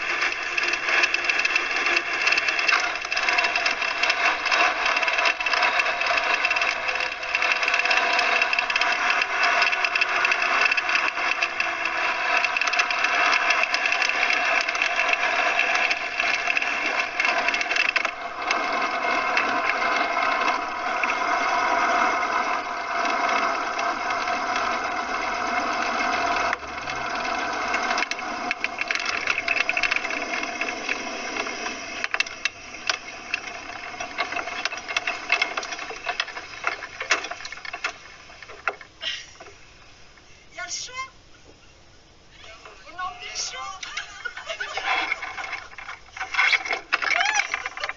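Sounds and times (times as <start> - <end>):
airframe rattling: 0.0 - 40.3, 42.3 - 47.9.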